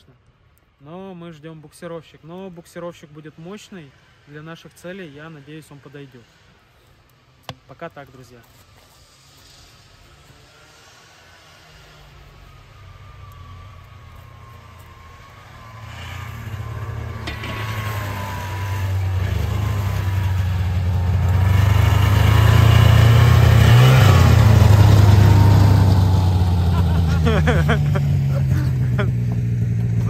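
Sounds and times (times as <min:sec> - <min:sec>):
snowmobile engine approaching: 0:02.7 - 0:30.0.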